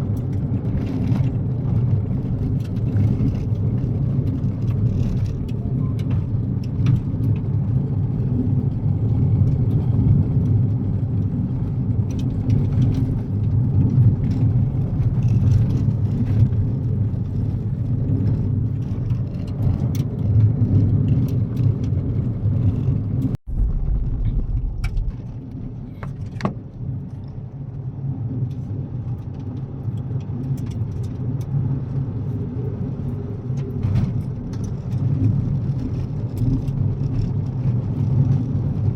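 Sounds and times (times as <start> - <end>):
car driving on gravel: 0.0 - 38.9
gravel clicks and ticks: 0.0 - 38.9.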